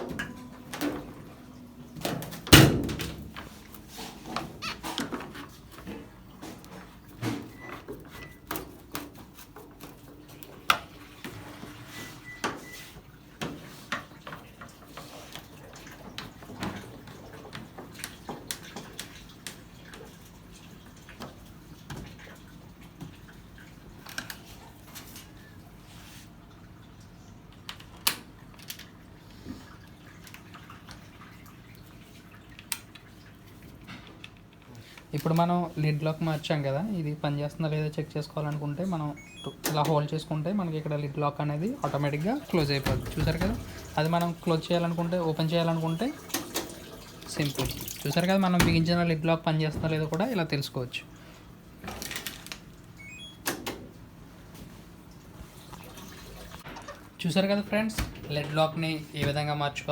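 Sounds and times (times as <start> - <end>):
water splashing in washing machine: 0.0 - 27.2, 27.8 - 33.9, 35.1 - 52.5, 54.7 - 59.7.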